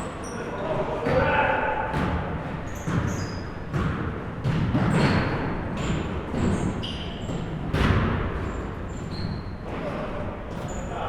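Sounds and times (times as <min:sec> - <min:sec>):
sneaker squeaks: 0:00.0 - 0:11.0
basketballs bouncing on gym floor: 0:01.0 - 0:11.0.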